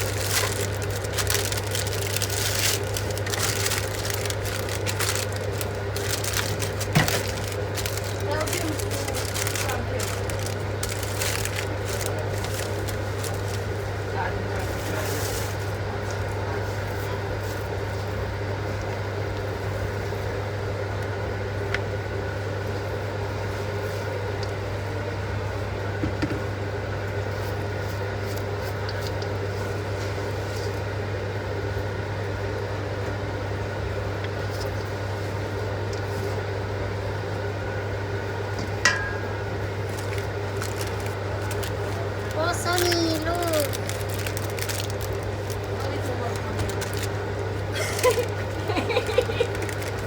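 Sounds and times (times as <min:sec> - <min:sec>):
kitchen appliance humming: 0:00.0 - 0:50.0.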